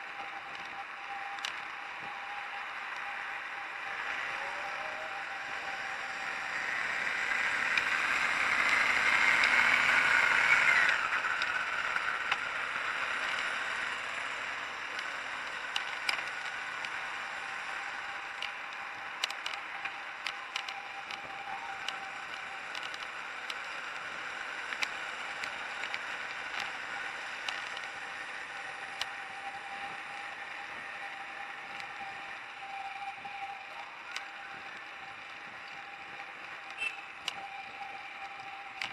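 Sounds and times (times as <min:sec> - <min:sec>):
rising whine: 0:00.0 - 0:38.9
road and wind noise: 0:00.0 - 0:38.9.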